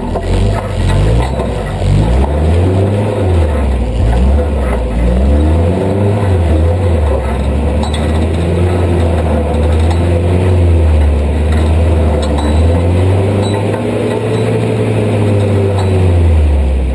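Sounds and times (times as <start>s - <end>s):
vehicle engine revving: 0.0s - 16.9s.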